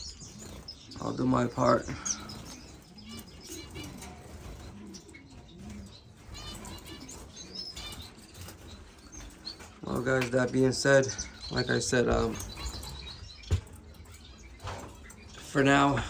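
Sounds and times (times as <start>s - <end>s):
finches chirping and trilling: 0.0s - 16.0s.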